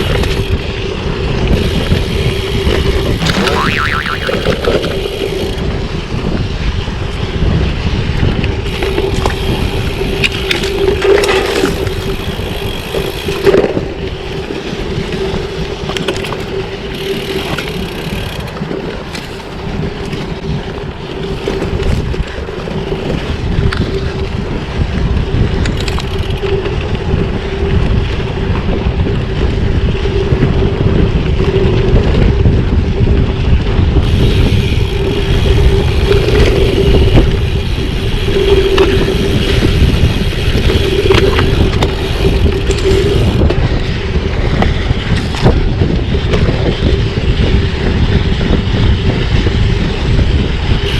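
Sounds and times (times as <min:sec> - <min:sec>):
low tyre rumble: 0:00.0 - 0:50.9
wind buffeting microphone: 0:00.0 - 0:50.9.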